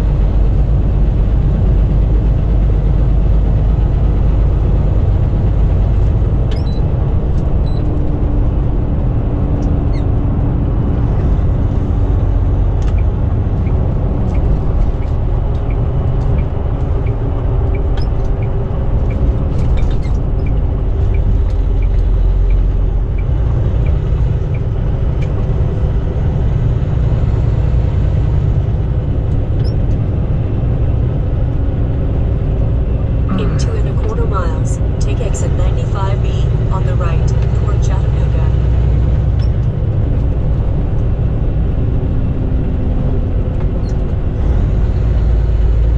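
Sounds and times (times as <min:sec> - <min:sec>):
road noise inside cab: 0:00.0 - 0:45.9
truck diesel engine rumble: 0:00.0 - 0:45.9.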